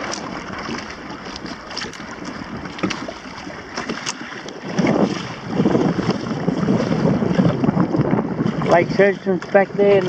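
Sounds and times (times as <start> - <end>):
water slapping against hull: 0.0 - 10.0
wind buffeting microphone: 0.0 - 10.0.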